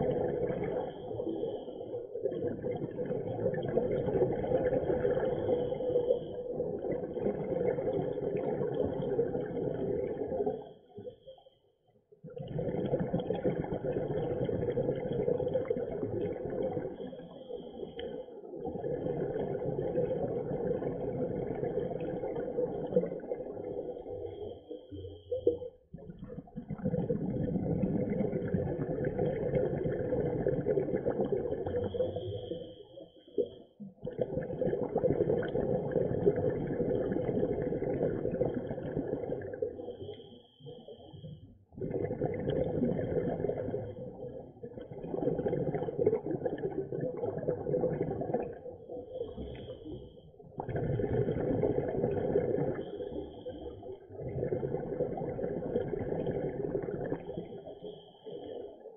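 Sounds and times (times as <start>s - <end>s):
diver exhaling bubbles underwater: 0.0s - 10.6s, 12.2s - 32.8s, 33.4s - 58.9s.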